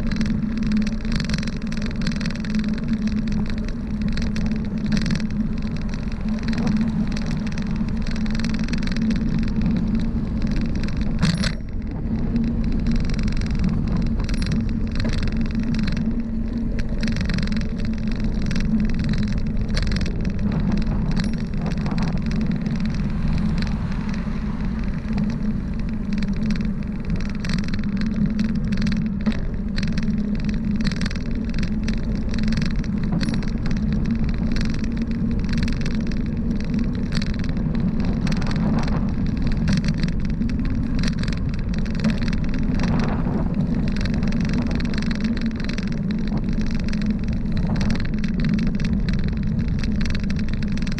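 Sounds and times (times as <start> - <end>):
bicycle clicks and knock: 0.0 - 50.9
bicycle road noise: 0.0 - 50.9.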